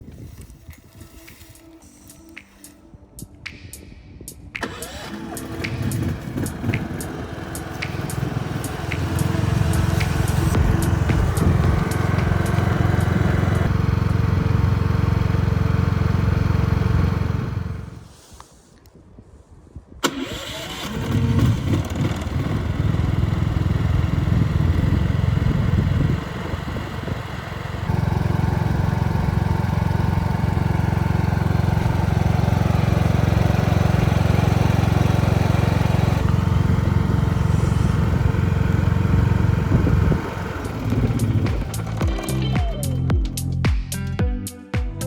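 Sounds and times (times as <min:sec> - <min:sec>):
generator engine running: 0:04.6 - 0:18.1, 0:20.0 - 0:43.6.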